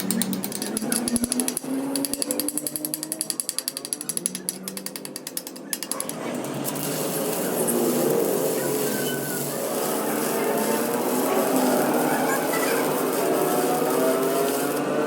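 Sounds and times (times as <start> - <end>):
power tool hammering: 0.0 - 15.0
workshop noise: 0.0 - 15.0.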